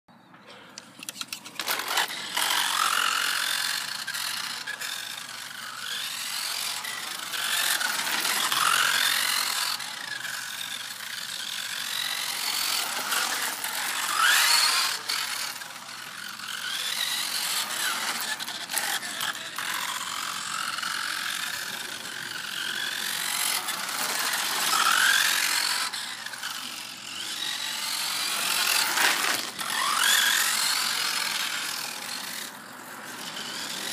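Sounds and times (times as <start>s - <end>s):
rattle of gears and tyres: 0.4s - 33.9s
toy car motor whining: 0.8s - 33.9s.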